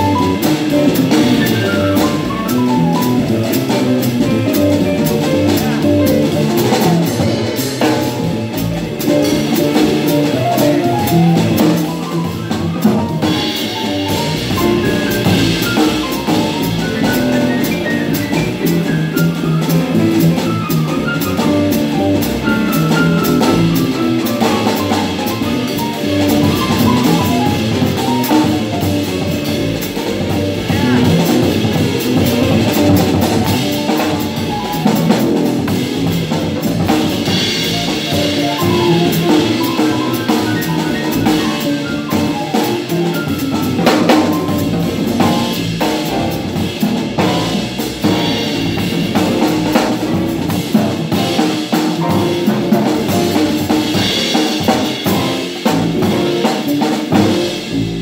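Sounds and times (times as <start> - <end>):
acoustic grand piano: 0.0 - 58.0
drum kit cymbals and snare: 0.0 - 58.0
upright double bass: 0.0 - 58.0.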